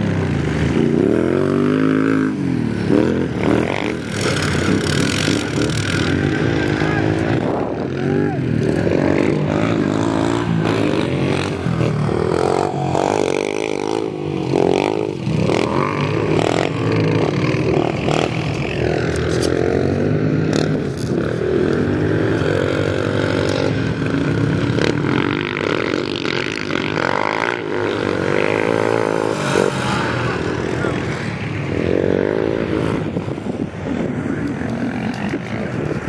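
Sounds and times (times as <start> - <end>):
quad bike engines racing: 0.0 - 36.0.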